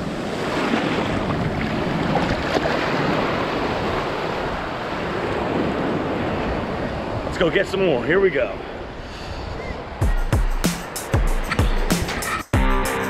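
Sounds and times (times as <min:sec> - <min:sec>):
wind buffeting microphone: 0:00.0 - 0:10.6
waves breaking on sand: 0:00.0 - 0:11.2.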